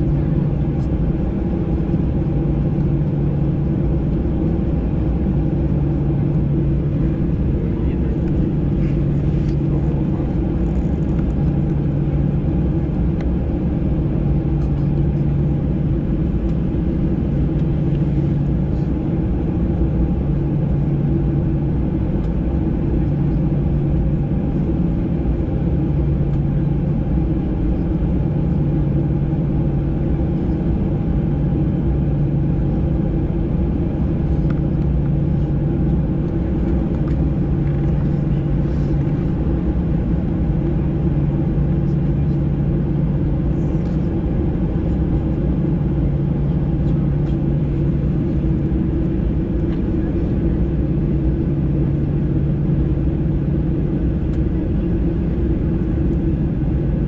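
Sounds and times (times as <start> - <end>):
aircraft cabin engine rumble: 0.0 - 57.0
low pulsing engine drone: 0.0 - 57.0.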